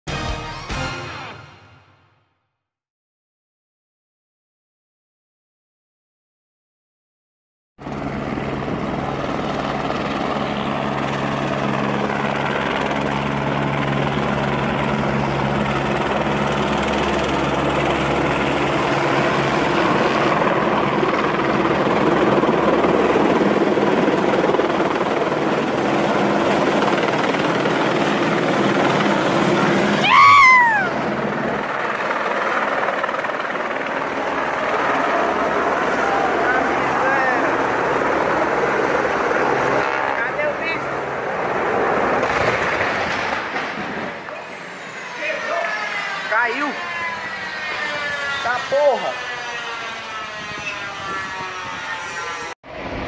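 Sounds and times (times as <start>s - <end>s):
helicopter rotor: 7.8s - 53.0s.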